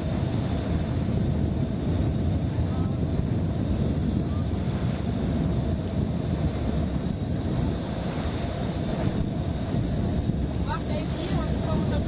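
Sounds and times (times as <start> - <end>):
rush of sea water: 0.0 - 12.0
wind rumbling on microphone: 0.0 - 12.0.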